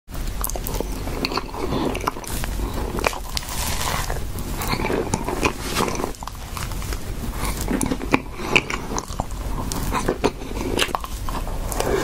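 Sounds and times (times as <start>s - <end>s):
chewing and lip sounds: 0.2s - 12.0s.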